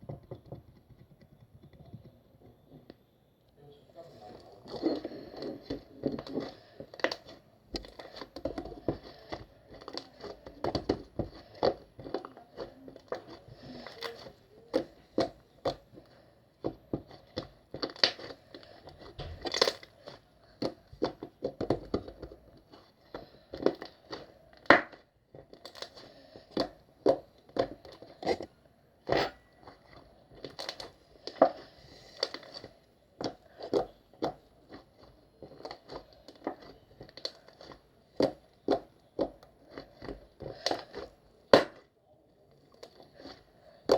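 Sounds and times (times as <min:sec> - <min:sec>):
crinkling handling noise: 0:03.9 - 0:43.9.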